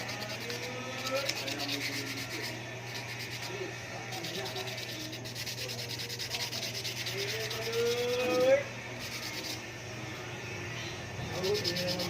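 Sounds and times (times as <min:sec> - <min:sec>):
sandpaper rubbing: 0:00.0 - 0:08.4, 0:09.0 - 0:09.6, 0:11.3 - 0:12.0.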